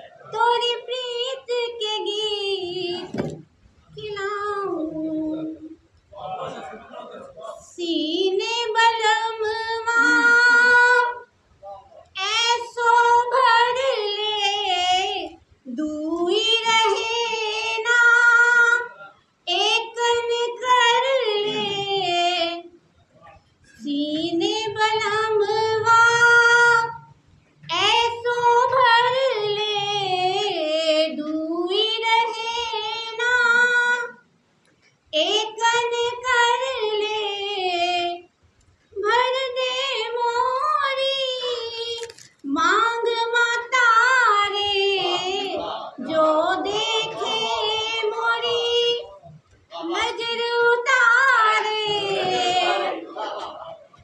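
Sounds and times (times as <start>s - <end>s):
woman singing unaccompanied: 0.0s - 5.8s, 7.6s - 11.4s, 12.1s - 22.8s, 23.8s - 34.3s, 35.1s - 38.4s, 39.0s - 53.1s.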